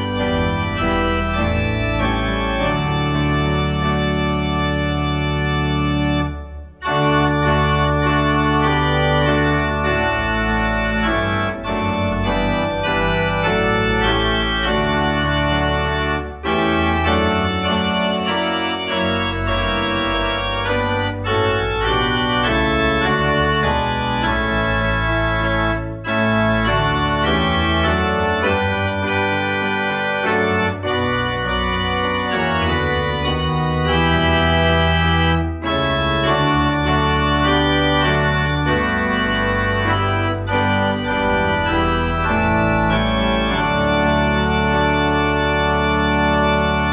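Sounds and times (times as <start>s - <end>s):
organ playing hymn chords: 0.0s - 46.9s.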